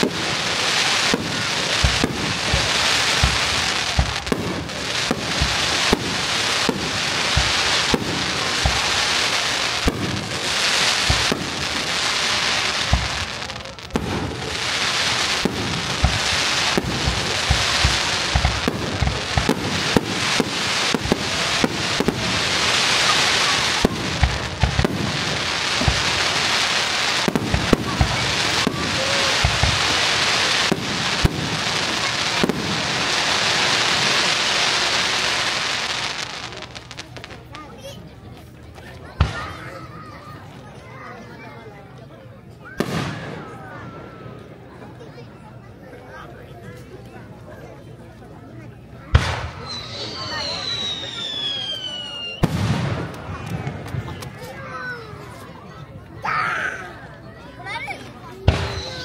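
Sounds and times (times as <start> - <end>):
crackling hiss of fireworks: 0.0 - 59.0.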